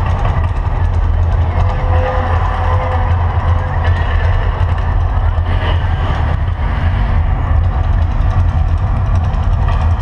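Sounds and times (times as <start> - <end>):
deep rumble over loudspeakers: 0.0 - 10.0.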